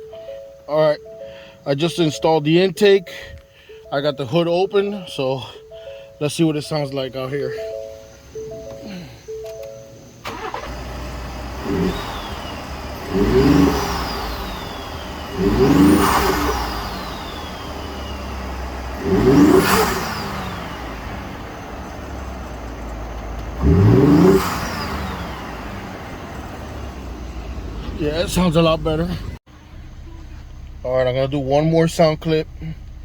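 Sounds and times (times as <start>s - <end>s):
truck engine starting and revving: 3.8s - 33.0s.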